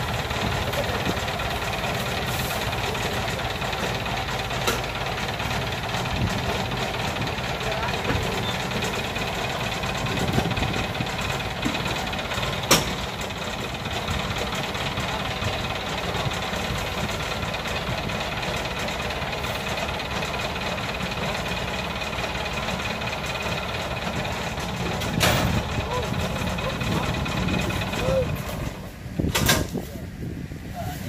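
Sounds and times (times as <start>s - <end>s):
diesel engine idling: 0.0s - 30.7s.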